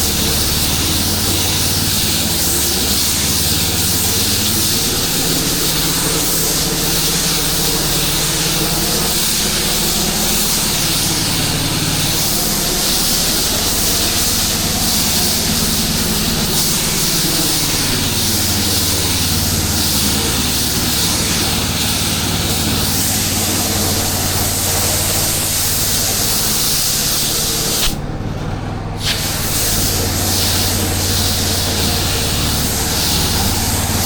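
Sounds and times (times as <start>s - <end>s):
high-pressure water spray hissing: 0.0s - 28.0s, 29.0s - 34.0s
pressure washer engine running: 0.0s - 34.0s.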